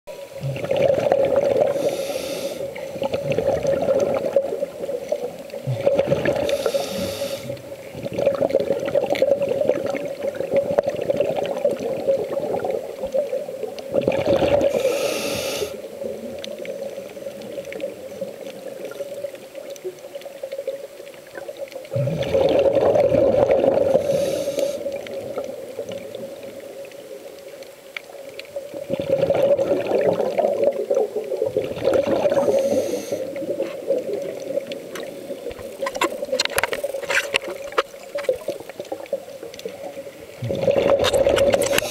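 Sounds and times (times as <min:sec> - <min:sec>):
breath and bubbles rushing: 0:00.1 - 0:19.4, 0:20.3 - 0:27.5, 0:28.4 - 0:41.9
underwater hum: 0:00.1 - 0:41.9.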